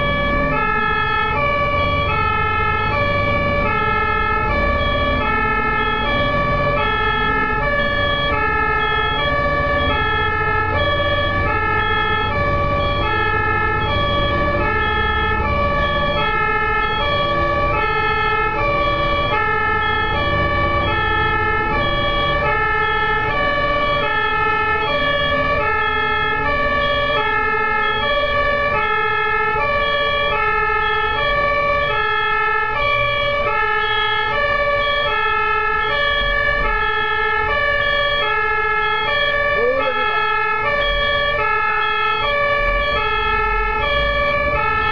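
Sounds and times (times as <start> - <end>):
ambulance two-tone siren: 0.0 - 44.9
traffic engine and road rumble: 0.0 - 44.9.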